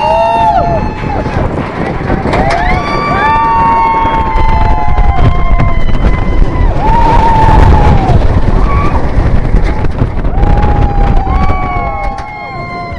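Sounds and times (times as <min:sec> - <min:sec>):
riders screaming and whooping: 0:00.0 - 0:12.9
roller coaster train rumble: 0:00.0 - 0:12.9.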